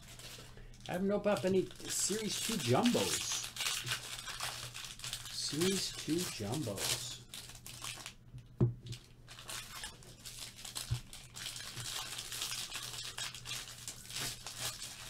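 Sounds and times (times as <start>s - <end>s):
foil wrappers tearing and crinkling: 0.0s - 8.2s, 8.9s - 15.0s.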